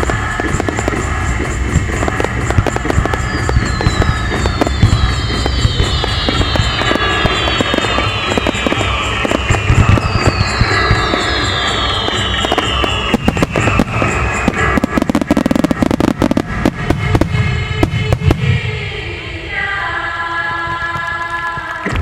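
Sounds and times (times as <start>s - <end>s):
fireworks bangs and crackles: 0.0s - 19.2s
music: 0.0s - 22.0s.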